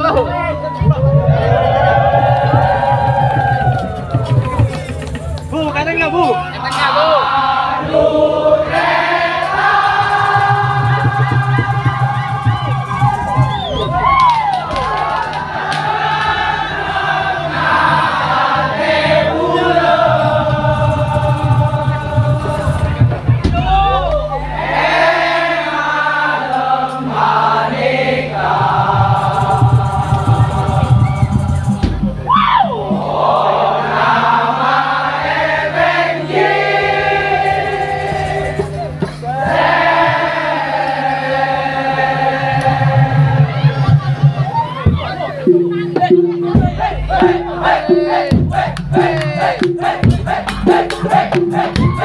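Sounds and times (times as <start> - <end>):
music: 0.0 - 52.0
voices singing together: 1.0 - 5.4, 6.5 - 52.0.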